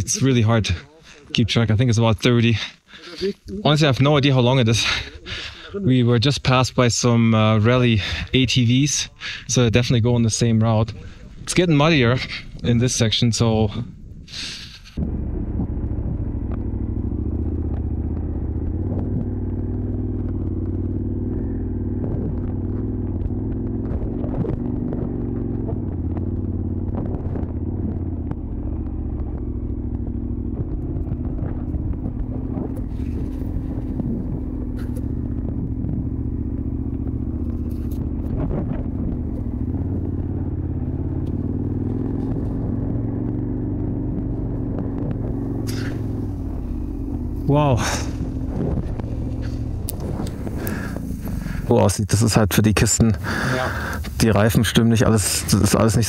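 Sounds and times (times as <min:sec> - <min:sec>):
motorcycle engine running: 0:03.0 - 0:56.0.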